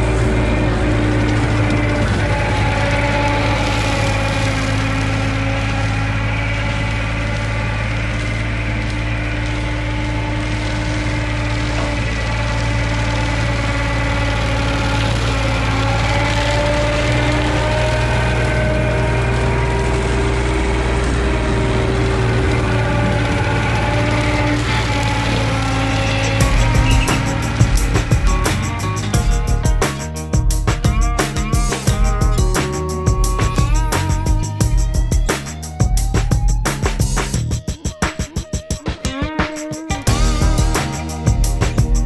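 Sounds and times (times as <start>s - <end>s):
rotary cutter mowing grass: 0.0s - 37.6s, 39.2s - 42.0s
diesel engine running under load: 0.0s - 38.0s, 39.9s - 42.0s.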